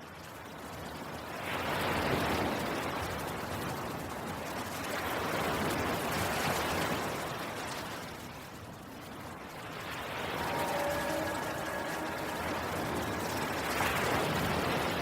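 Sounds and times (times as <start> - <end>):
rushing water-like noise: 0.0 - 15.0.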